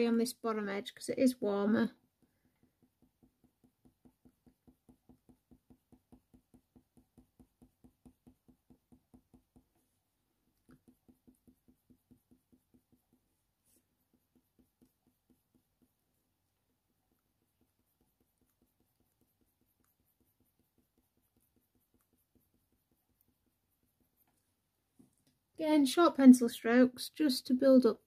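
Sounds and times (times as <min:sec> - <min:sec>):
pencil scratching on paper: 0:00.0 - 0:25.0.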